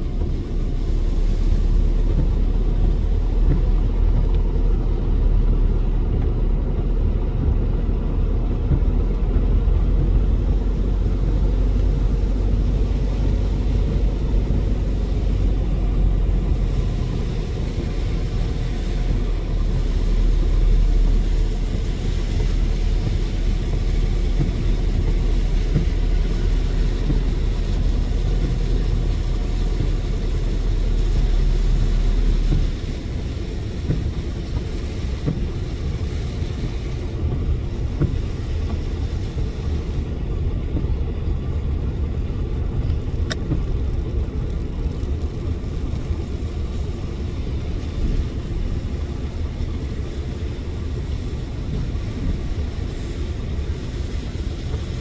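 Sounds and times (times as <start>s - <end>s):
car engine rumble: 0.0s - 55.0s
heavy low rumble: 0.0s - 55.0s
tyre noise hiss: 0.0s - 55.0s.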